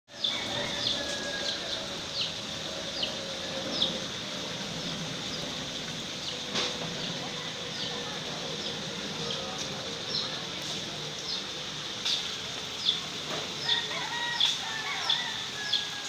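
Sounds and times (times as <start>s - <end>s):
outdoor background hiss: 0.1s - 16.0s.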